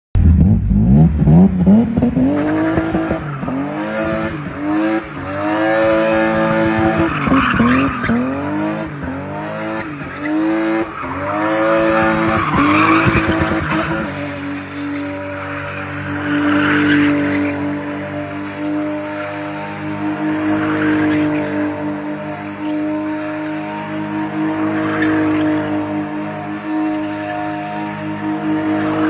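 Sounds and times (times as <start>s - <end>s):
car engine revving hard: 0.2s - 29.0s.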